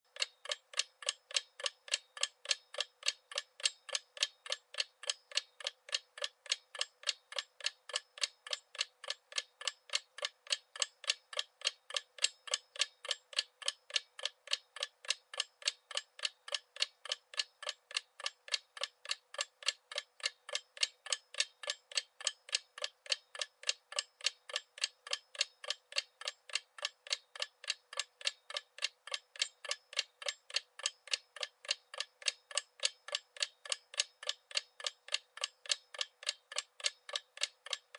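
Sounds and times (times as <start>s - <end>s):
clock ticking: 0.1s - 37.9s.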